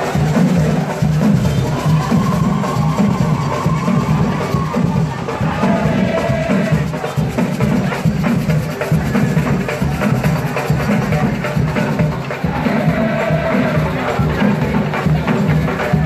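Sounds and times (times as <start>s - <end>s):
crowd noise: 0.0s - 16.0s
hand drums beating: 0.0s - 16.0s.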